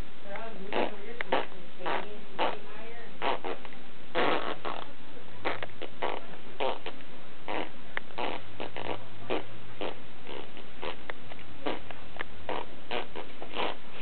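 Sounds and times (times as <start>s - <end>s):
child making fart noises: 0.7s - 11.9s, 12.5s - 14.0s.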